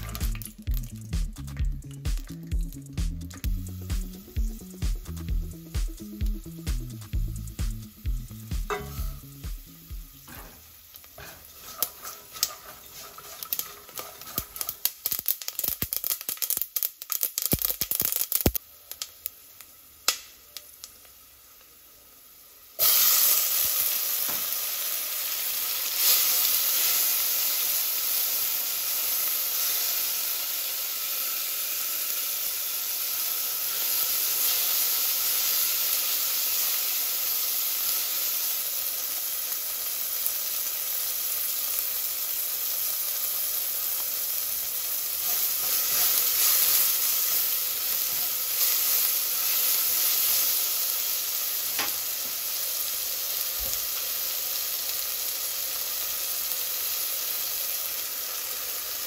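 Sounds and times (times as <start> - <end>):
seeds crackling in hot oil: 0.0 - 59.0
tomato sizzling in oil: 0.0 - 59.0.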